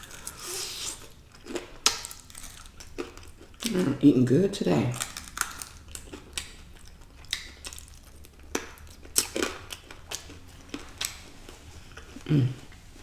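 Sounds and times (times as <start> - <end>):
chewing with wet mouth clicks: 0.0 - 3.8, 5.0 - 12.3.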